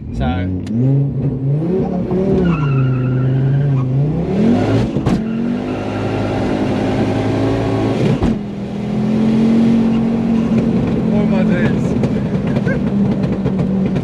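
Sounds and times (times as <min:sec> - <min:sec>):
car engine revving hard: 0:00.5 - 0:14.0.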